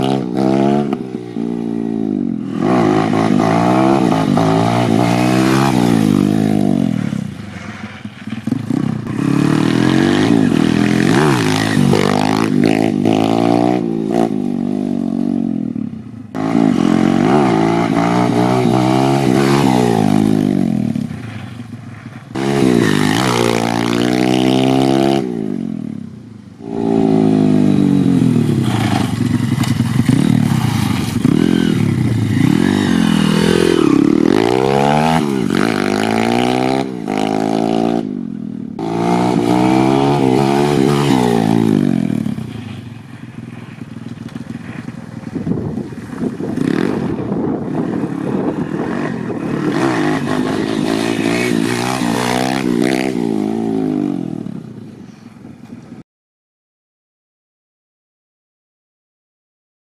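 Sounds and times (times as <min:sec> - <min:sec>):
motorbike engine revving: 0:00.0 - 0:54.7.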